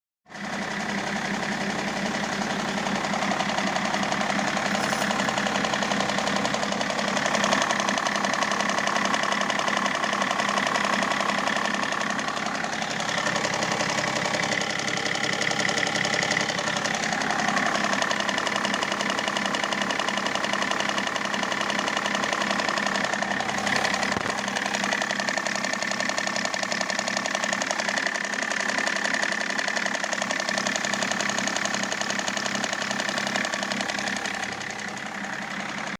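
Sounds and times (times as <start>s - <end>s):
diesel engine knocking: 0.3s - 35.9s.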